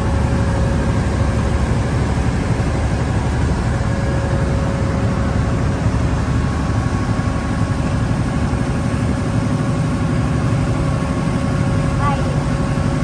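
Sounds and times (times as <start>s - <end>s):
ferry engine rumbling: 0.0s - 13.0s.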